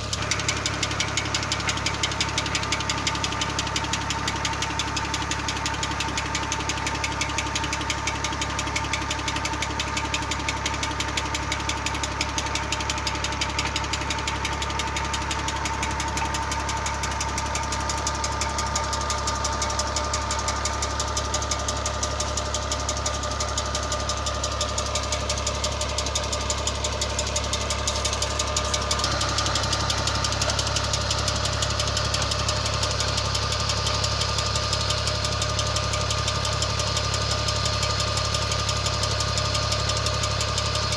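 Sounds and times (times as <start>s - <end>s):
diesel tractor engine knocking: 0.0s - 40.9s.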